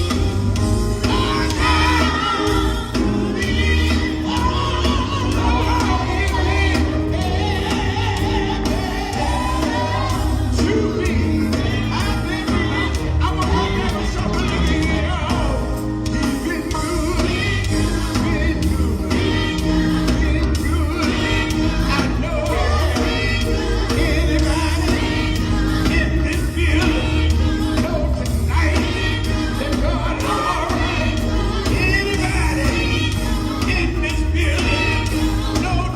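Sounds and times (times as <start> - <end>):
band accompaniment: 0.0 - 35.9
gospel group singing: 0.0 - 35.9.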